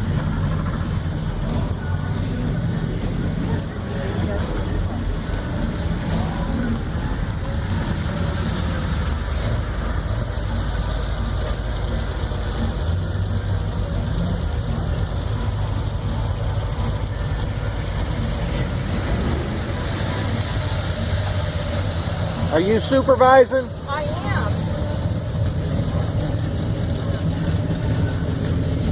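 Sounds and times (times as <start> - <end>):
car engines idling: 0.0 - 28.9.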